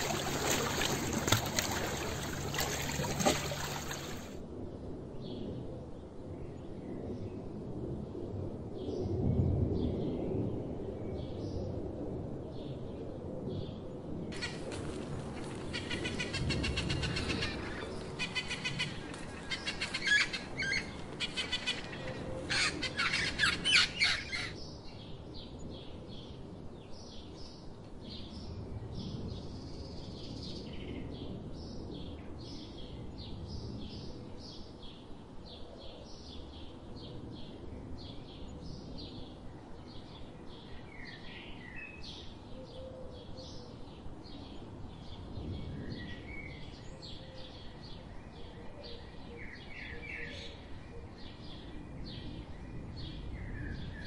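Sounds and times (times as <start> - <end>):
songbirds chirping: 0.0 - 4.4, 14.4 - 54.0.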